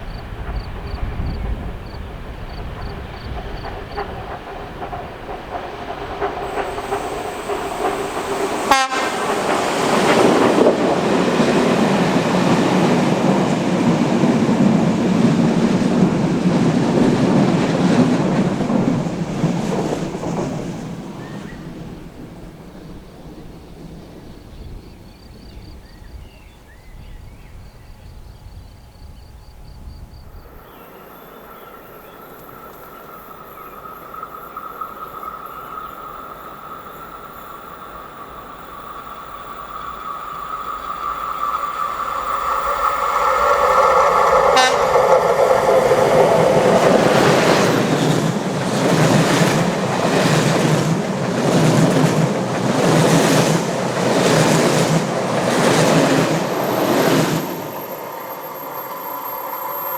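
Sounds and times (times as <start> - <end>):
passenger train rolling past: 0.0 - 59.9.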